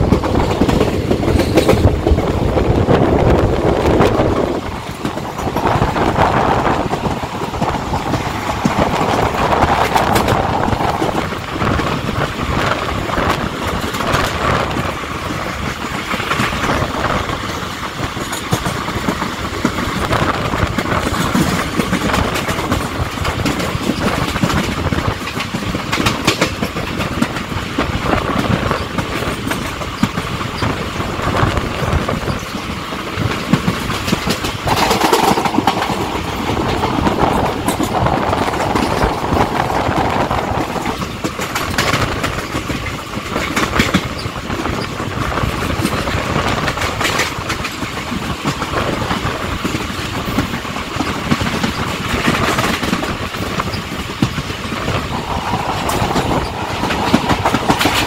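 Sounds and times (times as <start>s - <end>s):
train rumbling along track: 0.0s - 58.0s
wheels clacking over rail joints: 0.0s - 58.0s.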